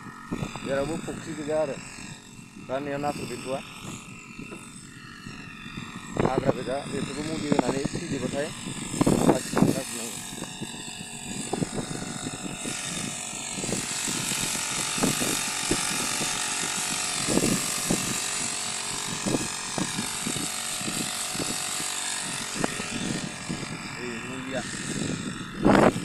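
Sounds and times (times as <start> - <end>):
power sprayer motor hum: 0.0 - 26.0.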